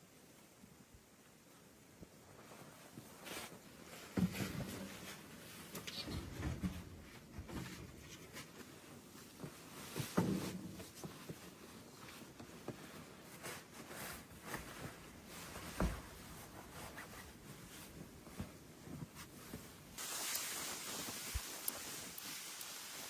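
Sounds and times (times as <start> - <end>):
rustling and handling noises: 0.6 - 23.0.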